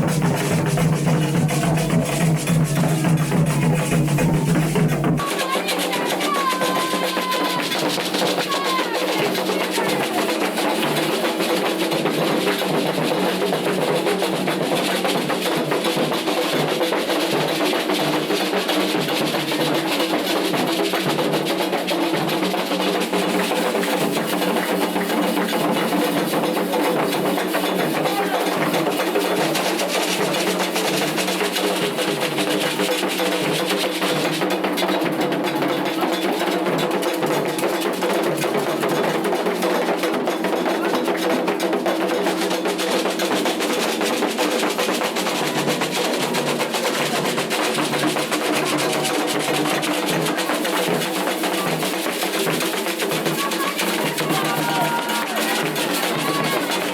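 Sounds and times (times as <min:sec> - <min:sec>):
hand drums playing dense rhythm: 0:00.0 - 0:56.9.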